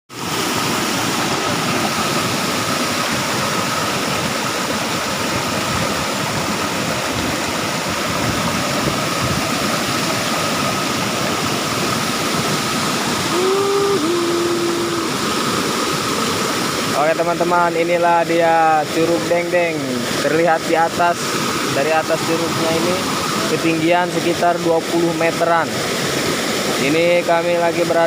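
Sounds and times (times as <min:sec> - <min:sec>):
waterfall roaring: 0:00.1 - 0:28.0.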